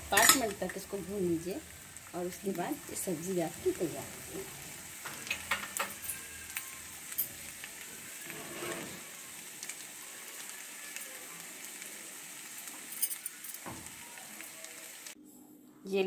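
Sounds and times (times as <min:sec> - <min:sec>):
taro frying in oil: 0:00.0 - 0:15.2.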